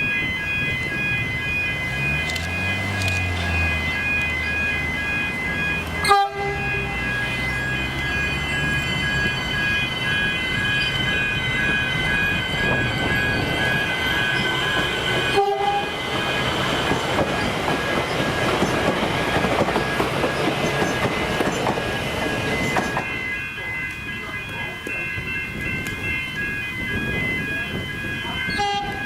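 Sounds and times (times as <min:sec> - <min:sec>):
steady high-pitched tones: 0:00.0 - 0:29.0
electric train running: 0:00.1 - 0:29.0.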